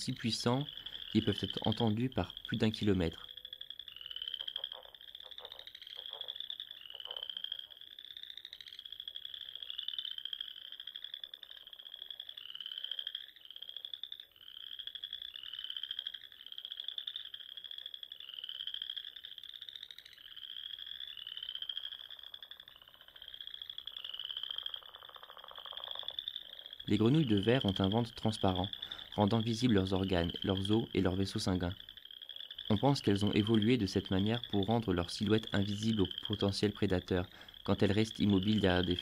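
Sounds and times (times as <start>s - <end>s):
tree frog chirping: 0.0s - 39.0s.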